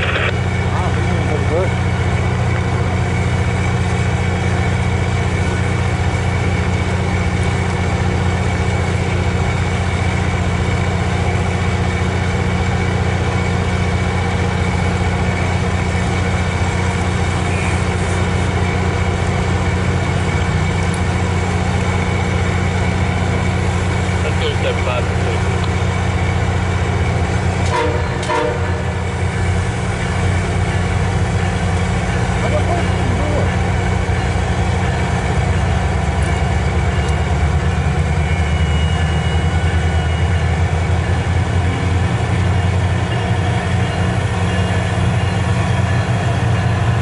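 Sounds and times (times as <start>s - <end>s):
diesel locomotive idling: 0.0s - 47.0s.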